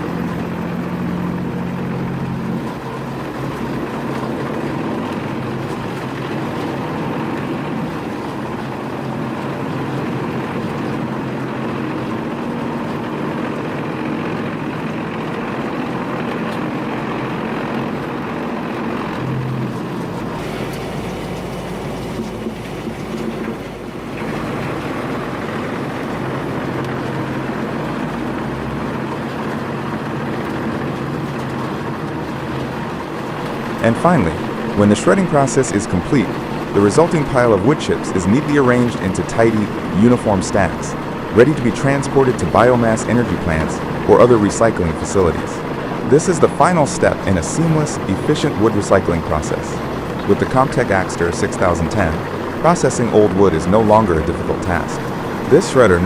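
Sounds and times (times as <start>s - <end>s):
wood shredder running: 0.0s - 56.0s.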